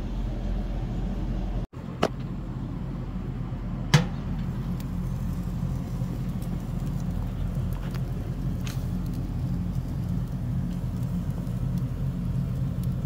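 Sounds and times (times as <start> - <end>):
low motor-like hum: 0.0 - 13.0.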